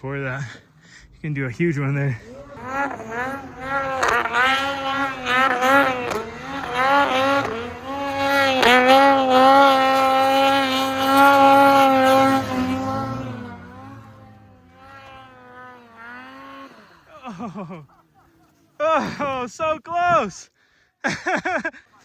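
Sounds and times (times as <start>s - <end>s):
snowmobile engine revving: 0.0s - 19.4s.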